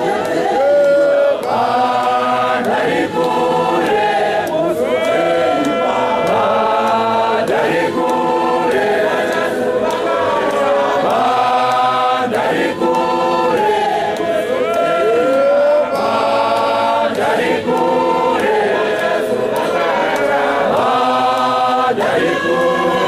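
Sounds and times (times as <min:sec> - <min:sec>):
male choir singing in harmony: 0:00.0 - 0:23.0.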